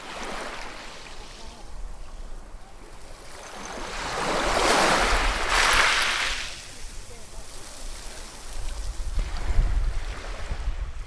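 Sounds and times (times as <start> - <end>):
ocean waves breaking on shore: 0.0 - 11.0.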